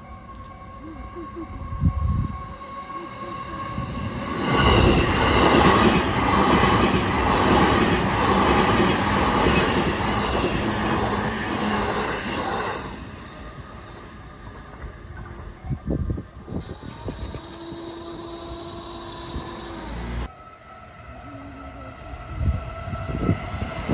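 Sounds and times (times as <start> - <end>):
electric train passing: 0.0 - 23.9.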